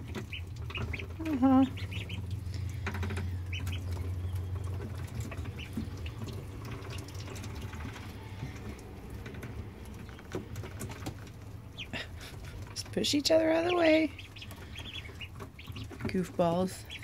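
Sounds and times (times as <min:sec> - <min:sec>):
ducklings pecking at greens: 0:00.0 - 0:17.0
ducklings peeping: 0:00.0 - 0:17.0.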